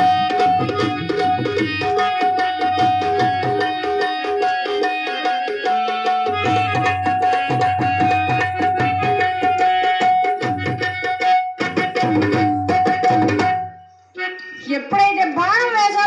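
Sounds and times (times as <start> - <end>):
tabla drumming: 0.0 - 16.0.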